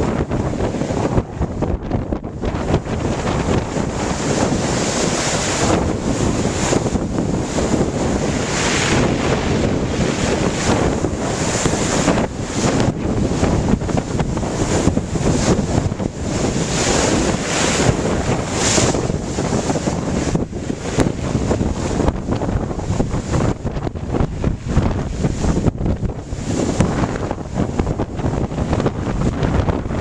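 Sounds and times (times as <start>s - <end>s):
waves breaking: 0.0s - 30.0s
wind buffeting microphone: 0.0s - 30.0s.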